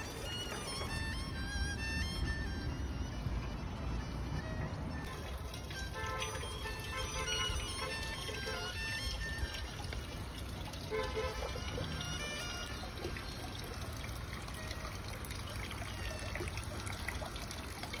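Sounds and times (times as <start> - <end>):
water pouring into pond: 0.0 - 1.6, 5.0 - 18.0
soft background music: 0.0 - 18.0.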